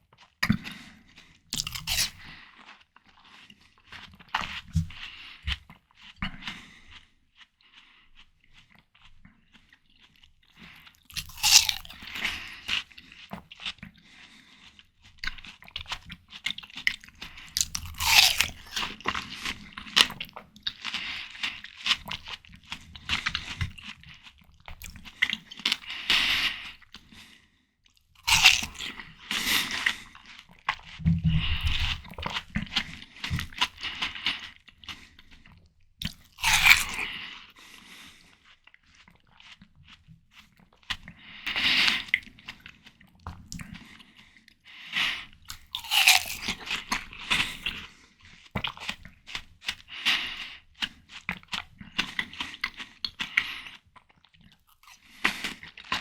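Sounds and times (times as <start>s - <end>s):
wet chewing: 0.1s - 56.0s
crunching watermelon bites: 0.5s - 26.7s, 28.2s - 37.5s, 45.5s - 56.0s.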